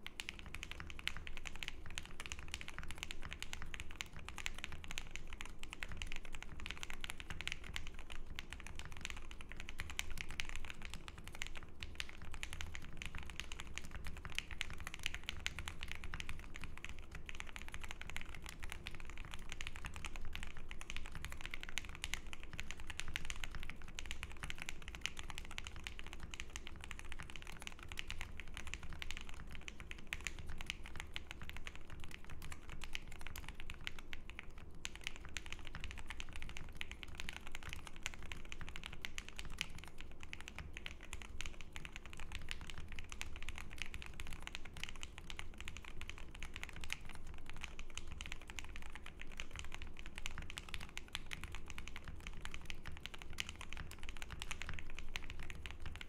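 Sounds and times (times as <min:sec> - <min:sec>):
typing on mechanical keyboard: 0:00.0 - 0:56.0.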